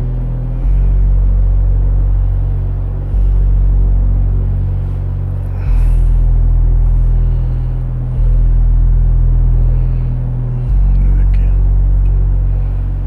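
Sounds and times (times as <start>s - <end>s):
low machine rumble: 0.0s - 13.0s.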